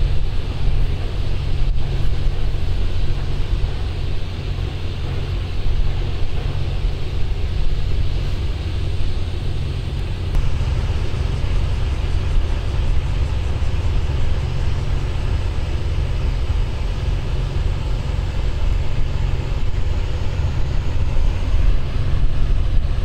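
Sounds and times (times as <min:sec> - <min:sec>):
steady hiss: 0:00.0 - 0:23.0
wind buffeting microphone: 0:00.0 - 0:23.0.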